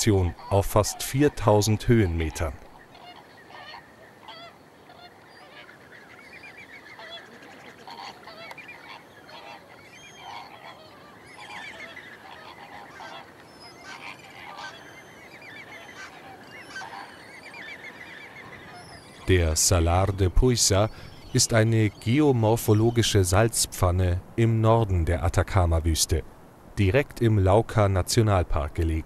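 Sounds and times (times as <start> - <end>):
flamingos honking and chattering: 0.0 - 23.5.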